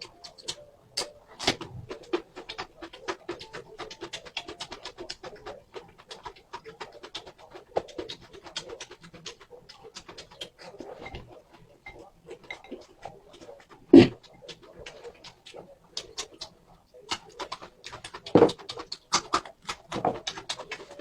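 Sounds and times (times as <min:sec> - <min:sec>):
person chewing noodles: 0:00.0 - 0:21.0.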